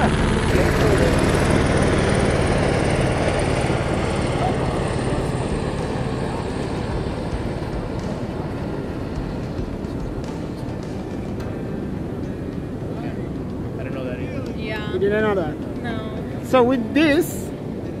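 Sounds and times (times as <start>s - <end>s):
aircraft engine passing overhead: 0.0s - 18.0s.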